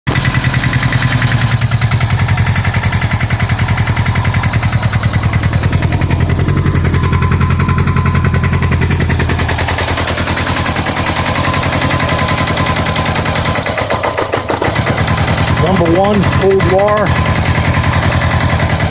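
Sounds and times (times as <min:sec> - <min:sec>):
engine rattle: 0:00.1 - 0:18.9
motorcycle engine idling: 0:00.1 - 0:18.9.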